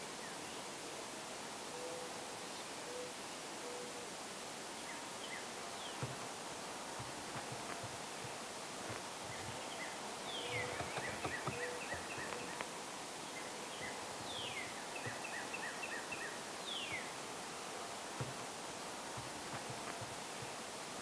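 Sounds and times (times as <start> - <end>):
songbird singing: 1.7 - 21.0.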